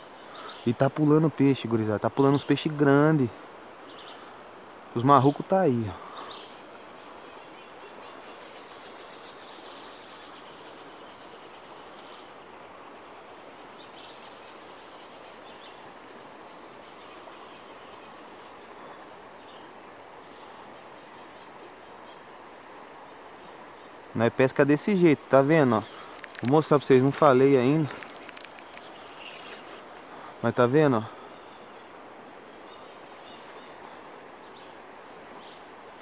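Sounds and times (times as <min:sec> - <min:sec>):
background hiss: 0:00.0 - 0:36.0.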